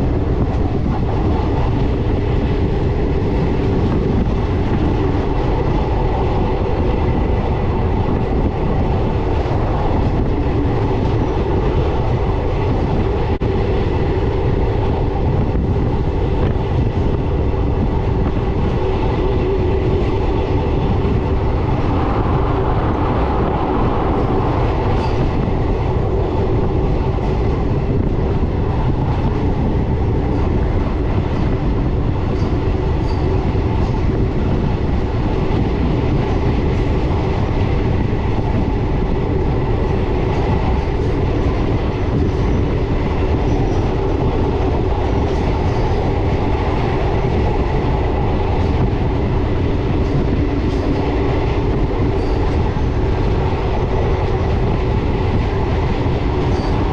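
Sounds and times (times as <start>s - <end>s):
wheels rumbling on rail: 0.0s - 56.9s.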